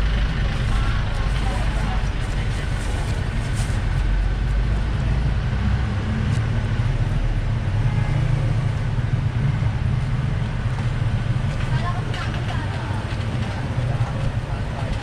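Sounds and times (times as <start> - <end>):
street traffic rumble: 0.0 - 15.0
vehicle engine running nearby: 0.0 - 15.0.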